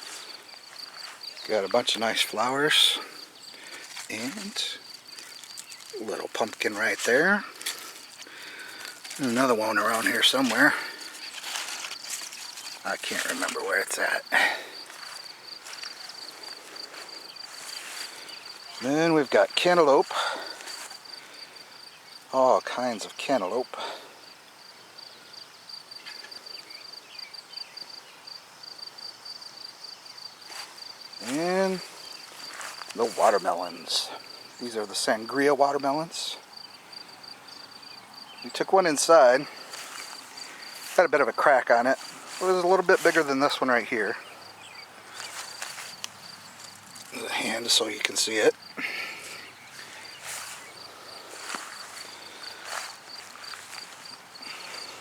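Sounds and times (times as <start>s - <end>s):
soft rustles in plants: 0.0s - 24.1s, 30.2s - 55.0s
insects trilling: 0.0s - 55.0s.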